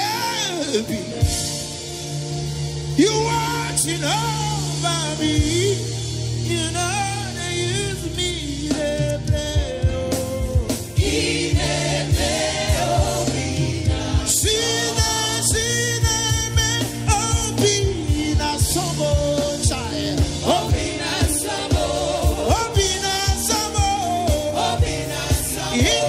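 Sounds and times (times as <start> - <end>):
gospel worship singing: 0.0 - 2.0, 2.9 - 26.0
band with steady drum beat: 0.0 - 26.0.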